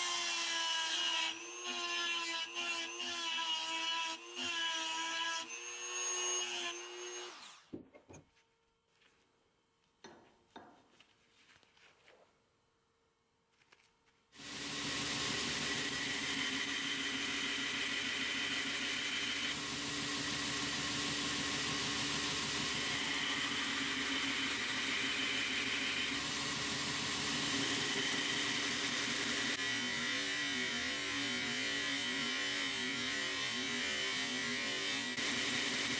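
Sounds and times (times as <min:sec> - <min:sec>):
belt grinder whirring: 0:00.0 - 0:07.7, 0:14.4 - 0:35.9.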